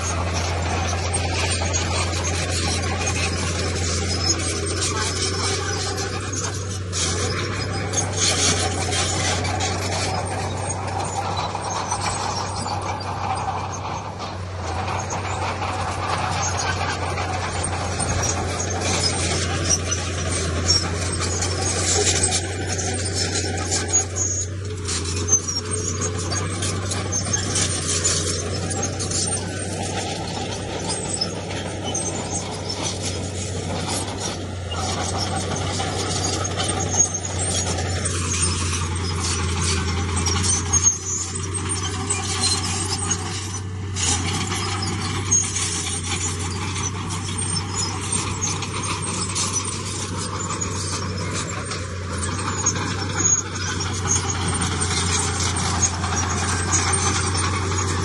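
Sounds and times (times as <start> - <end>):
diesel engine running: 0.0 - 58.0
machinery squealing: 0.0 - 58.0.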